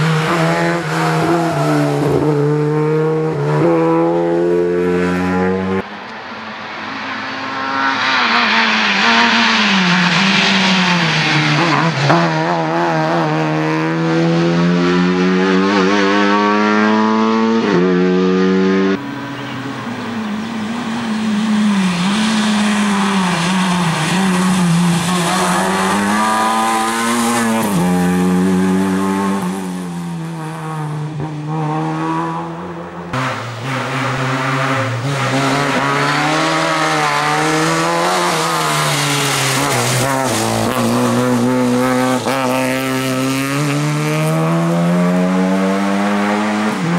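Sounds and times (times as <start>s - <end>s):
rally car engine revving hard: 0.0s - 5.8s, 7.6s - 19.0s, 20.5s - 46.9s.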